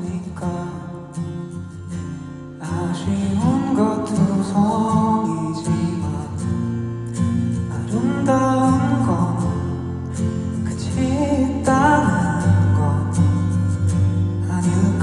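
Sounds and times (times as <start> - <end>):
man singing pop ballad: 0.0 - 1.9, 2.5 - 15.0.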